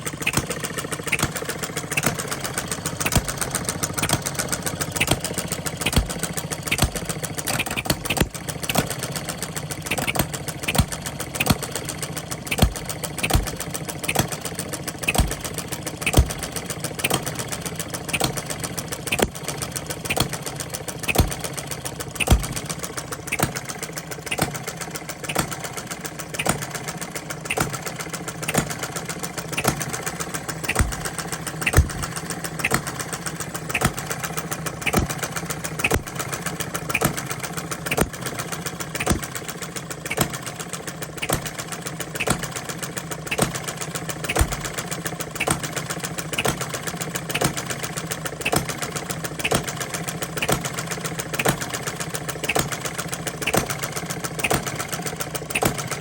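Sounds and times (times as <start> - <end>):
small gas engine knocking: 0.0 - 56.0.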